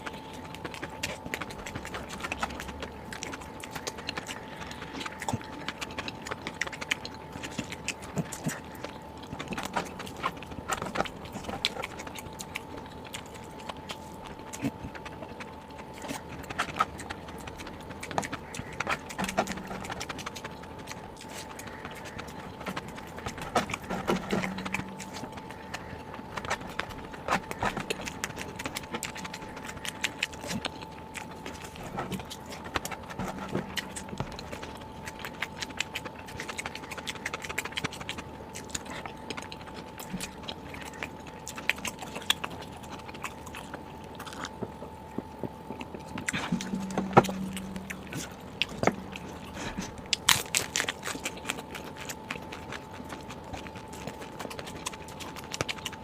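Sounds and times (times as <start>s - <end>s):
faint high hum: 0.0s - 56.0s
person chewing food: 0.0s - 56.0s.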